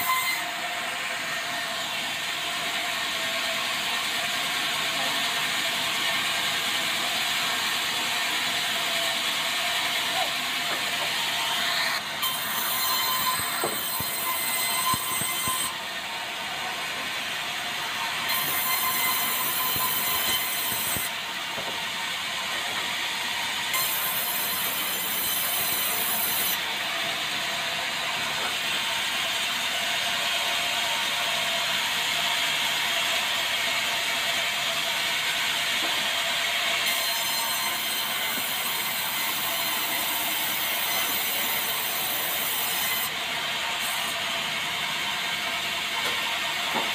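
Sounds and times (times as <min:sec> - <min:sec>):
band saw cutting timber: 0:00.0 - 0:46.9.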